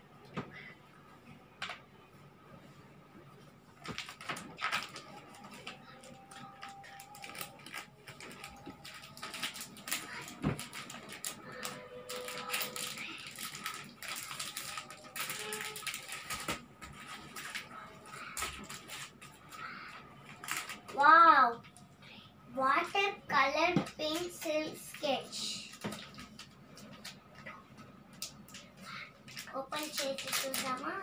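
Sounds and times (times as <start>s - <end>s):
plastic crinkling and rustling: 3.7s - 21.9s, 22.8s - 31.0s.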